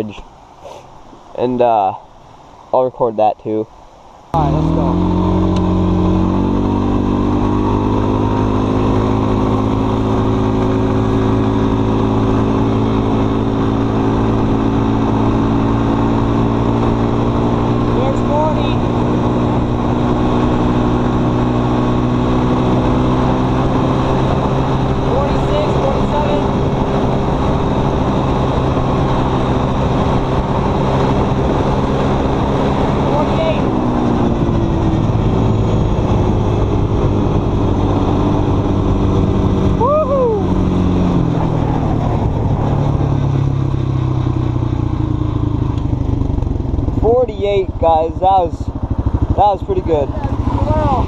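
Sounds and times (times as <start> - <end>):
atv engine droning: 4.3 - 51.0.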